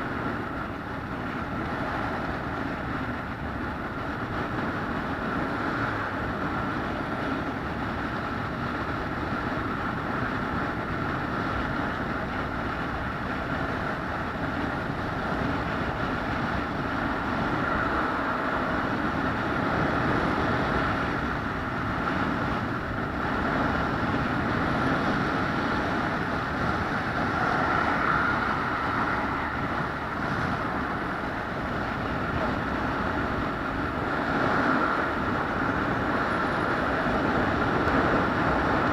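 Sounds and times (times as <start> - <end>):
moving vehicle running noise: 0.0 - 38.9.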